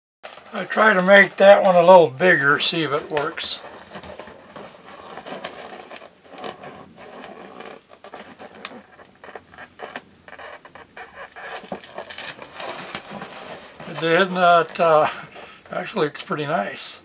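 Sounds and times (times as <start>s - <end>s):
balloon crackling on wet paint: 0.2s - 16.3s.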